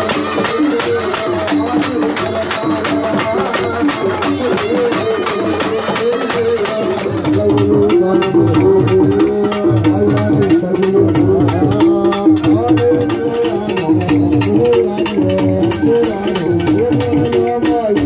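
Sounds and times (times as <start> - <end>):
fast drum strokes: 0.0 - 18.0.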